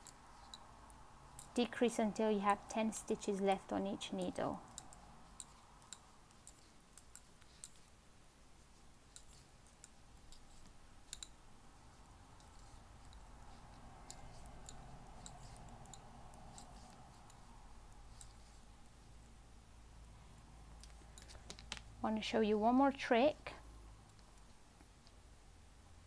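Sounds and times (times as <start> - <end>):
knitting needles clicking: 0.0 - 8.0, 8.9 - 19.1, 20.0 - 21.9, 24.0 - 25.2.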